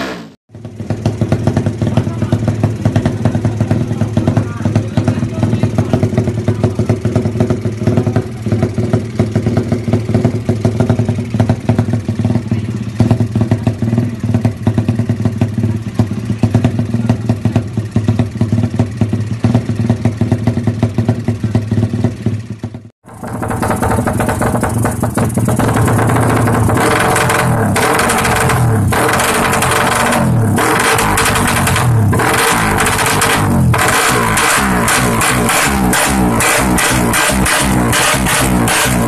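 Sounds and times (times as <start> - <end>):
engine revving: 0.0 - 39.0
motorcycle engine idling: 0.5 - 39.0.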